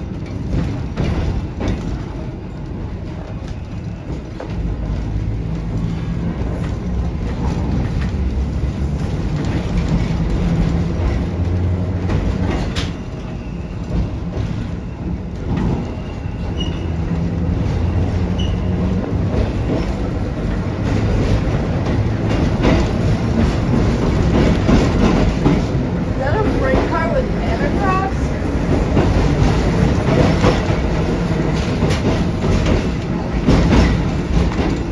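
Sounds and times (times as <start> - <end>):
wheels rumbling on rails: 0.0 - 34.9
electric trolley hum: 2.0 - 34.9.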